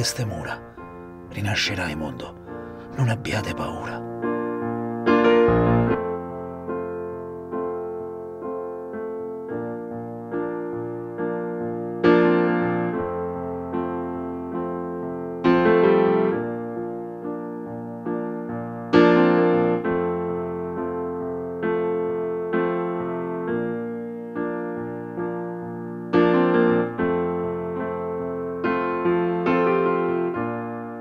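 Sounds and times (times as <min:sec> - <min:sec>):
slow piano music: 0:00.0 - 0:31.0.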